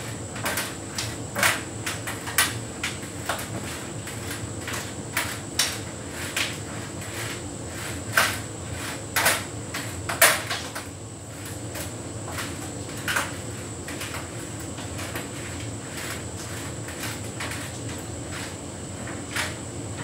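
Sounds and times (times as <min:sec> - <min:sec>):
tumble dryer humming: 0:00.0 - 0:20.0.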